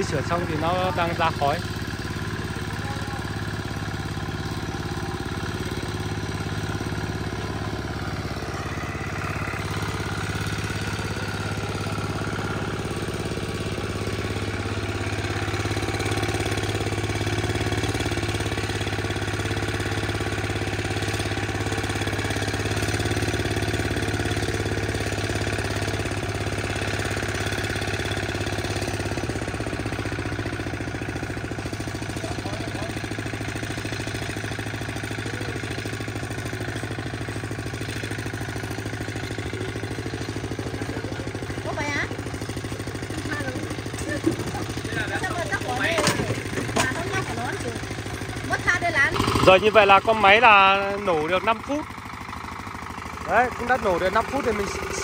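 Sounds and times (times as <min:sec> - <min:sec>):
small tiller engine idling: 0:00.0 - 0:55.0.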